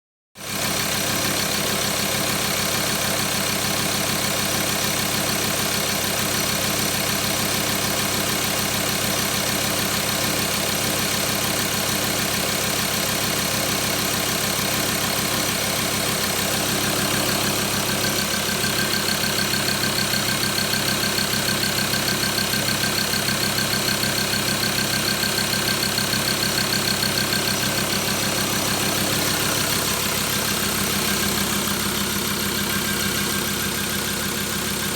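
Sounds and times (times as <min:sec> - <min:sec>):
diesel engine idling: 0:00.5 - 0:34.9.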